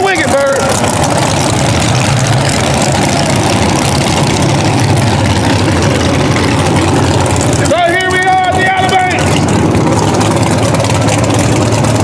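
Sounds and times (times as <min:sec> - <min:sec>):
race car engines idling loudly: 0:00.0 - 0:12.0.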